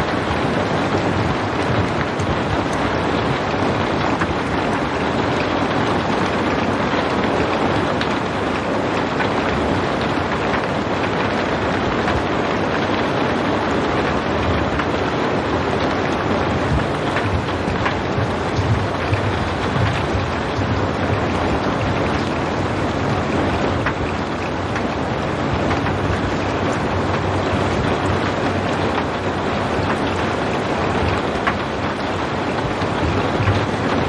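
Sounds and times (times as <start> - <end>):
faint raindrop ticks: 0.0 - 34.0
steady rain hiss: 0.0 - 34.0.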